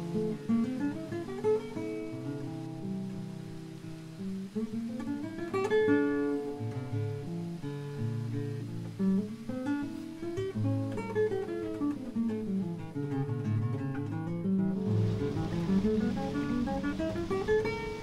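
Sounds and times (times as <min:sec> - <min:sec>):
solo acoustic guitar: 0:00.0 - 0:18.0.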